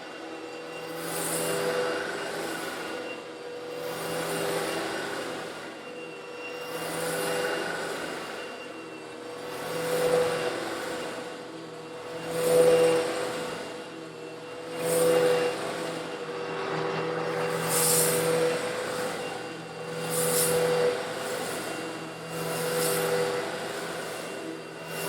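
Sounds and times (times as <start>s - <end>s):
vacuum cleaner motor hum: 0.0s - 25.0s.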